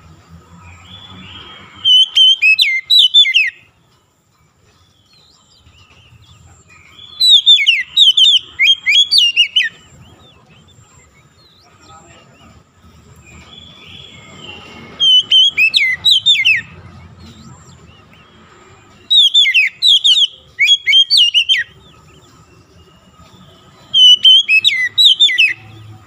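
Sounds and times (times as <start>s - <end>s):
bird singing whistled notes: 0.0s - 3.8s, 4.6s - 26.0s.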